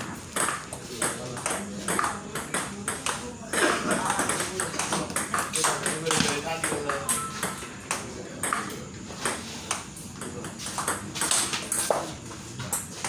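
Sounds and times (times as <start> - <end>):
ping pong ball clicking off paddles: 0.1 - 13.0
ball bouncing on table: 0.3 - 3.2, 3.9 - 12.9.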